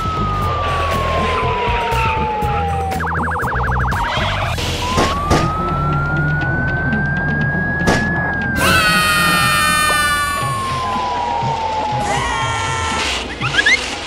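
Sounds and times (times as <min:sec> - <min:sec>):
siren wailing: 0:00.0 - 0:13.8.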